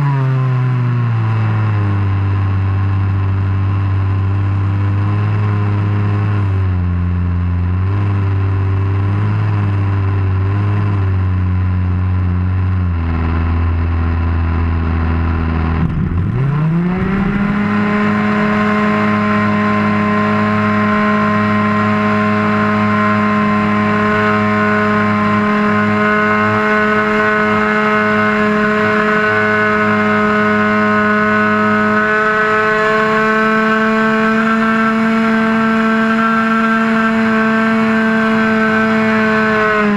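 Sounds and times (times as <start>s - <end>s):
model airplane engine and propeller: 0.0s - 39.9s.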